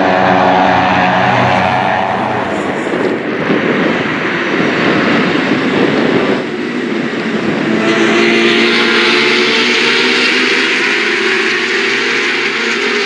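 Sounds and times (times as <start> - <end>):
racing motorcycles passing at speed: 0.0 - 13.0.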